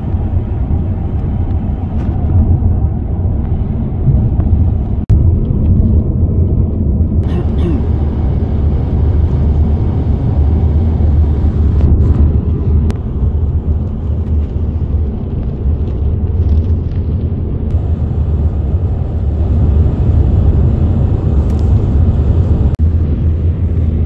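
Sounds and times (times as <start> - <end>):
road and engine noise in car: 0.0 - 24.0.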